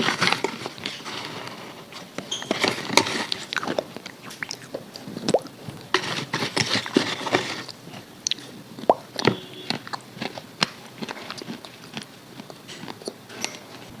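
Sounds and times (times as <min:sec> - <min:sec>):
crunching fried chicken: 0:00.0 - 0:14.0.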